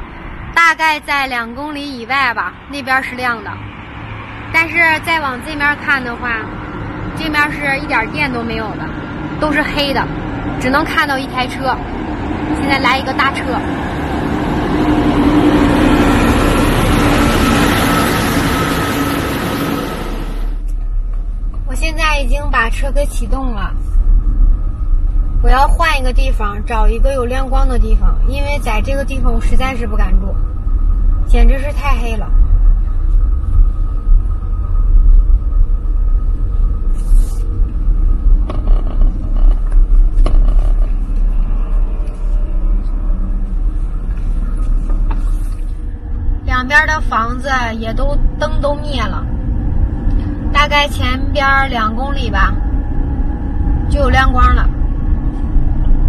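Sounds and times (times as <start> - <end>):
truck driving past: 0.0 - 21.7, 32.2 - 56.0
car engine and road rumble: 0.0 - 56.0.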